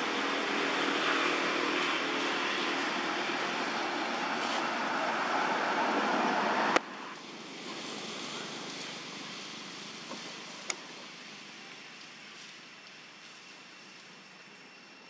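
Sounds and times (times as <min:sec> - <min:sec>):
rushing background noise: 0:00.0 - 0:15.0.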